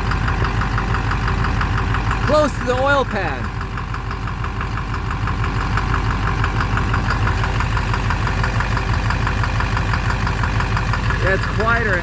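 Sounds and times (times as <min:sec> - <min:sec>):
diesel engine idling: 0:00.0 - 0:12.0
rapid even engine knock: 0:00.0 - 0:12.0.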